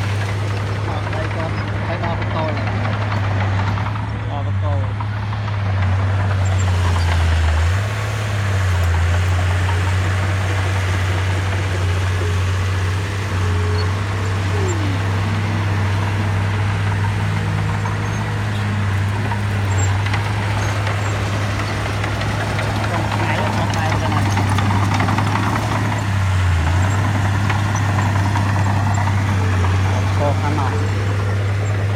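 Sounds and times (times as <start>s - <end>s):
heavy diesel engine running: 0.0s - 31.9s.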